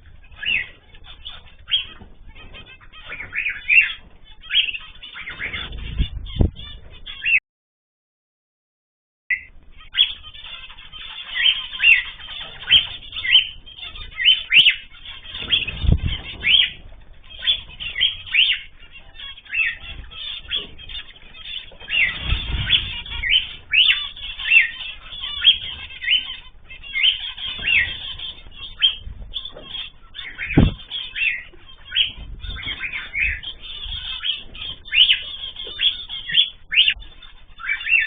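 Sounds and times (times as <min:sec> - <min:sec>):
small birds chirping: 0:00.0 - 0:07.4, 0:09.3 - 0:38.0
wings fluttering: 0:00.0 - 0:07.4, 0:09.7 - 0:38.0.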